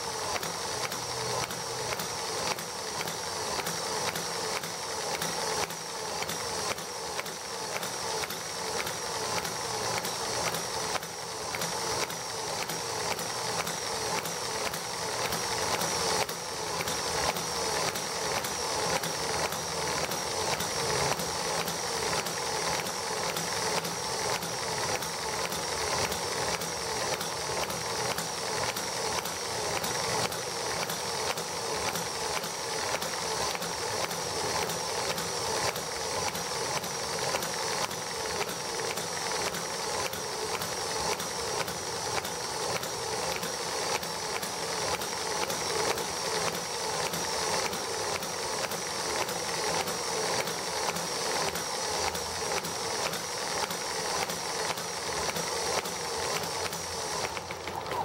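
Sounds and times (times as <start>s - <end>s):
miniature engine running: 0.0s - 58.0s.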